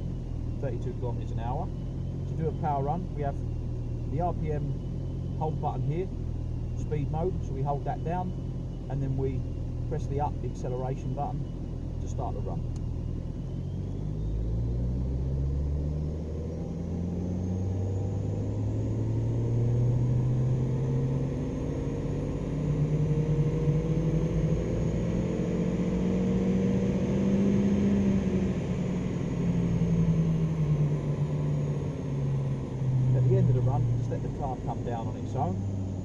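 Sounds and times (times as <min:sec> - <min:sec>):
car engine revving under load: 0:00.0 - 0:36.0
faint high whine: 0:00.0 - 0:36.0.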